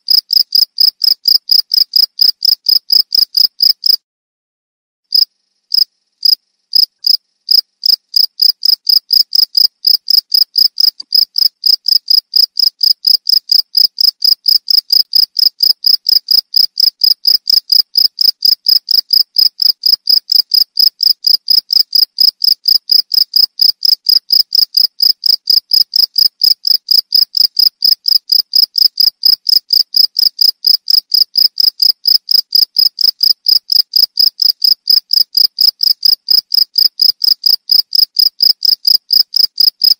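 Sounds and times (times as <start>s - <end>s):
cricket chirping: 0.1s - 4.0s, 5.1s - 39.9s.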